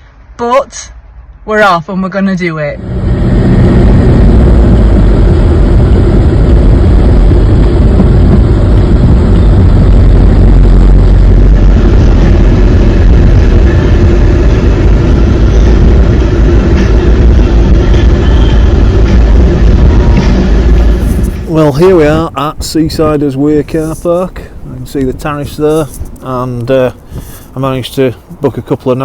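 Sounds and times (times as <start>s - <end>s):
motorhome engine and road noise: 2.6s - 29.0s.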